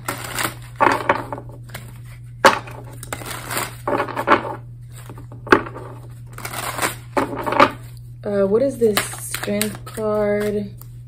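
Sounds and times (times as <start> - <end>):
cards shuffling: 0.0 - 7.9, 8.8 - 11.0
steady low hum: 0.0 - 11.0.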